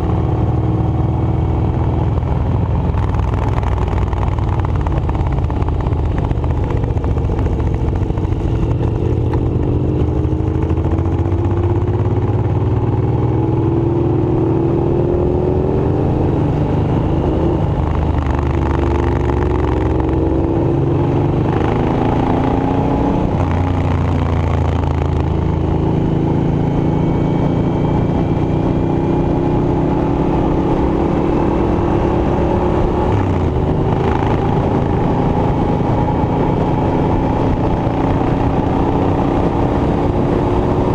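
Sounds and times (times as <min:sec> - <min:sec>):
loud engine running: 0:00.0 - 0:31.0, 0:31.8 - 0:40.9.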